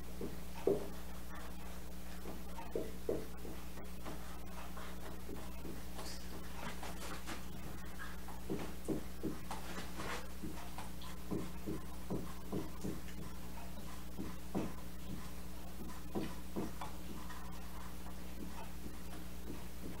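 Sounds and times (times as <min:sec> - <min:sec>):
steady low hum: 0:00.0 - 0:20.0
marker writing on whiteboard: 0:00.2 - 0:10.7, 0:11.3 - 0:20.0.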